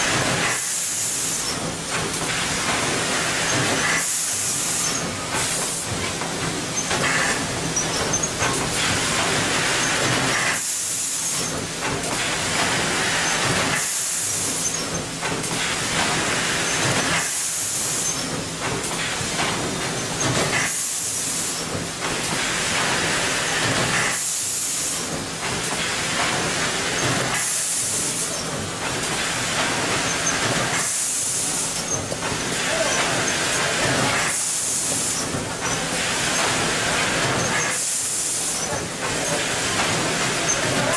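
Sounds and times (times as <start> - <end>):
packaging machine mechanical hiss: 0.0 - 40.9.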